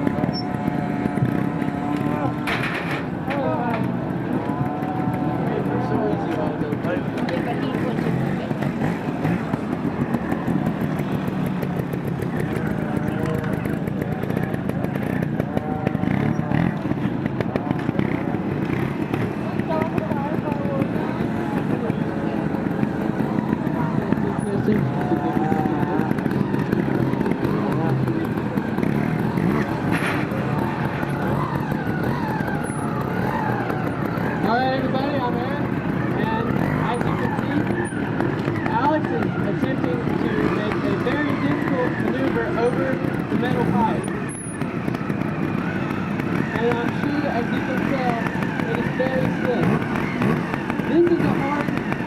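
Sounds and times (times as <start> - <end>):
faint voices: 0.0 - 52.0
motorcycle engines running: 0.0 - 52.0.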